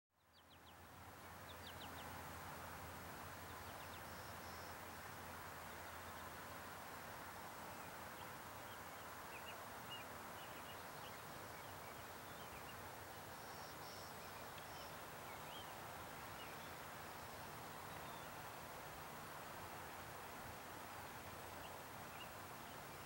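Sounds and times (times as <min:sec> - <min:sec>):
low hiss: 0:00.2 - 0:23.0.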